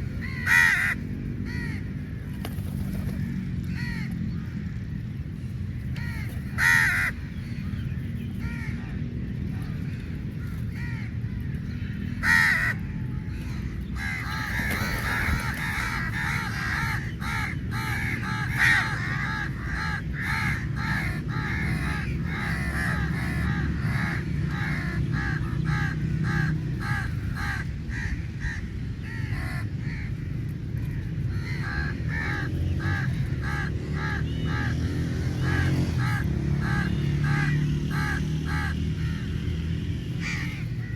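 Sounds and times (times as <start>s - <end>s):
crows cawing: 0.0s - 5.4s, 6.0s - 7.6s, 8.4s - 8.8s, 9.6s - 40.9s
low background rumble: 0.0s - 34.4s.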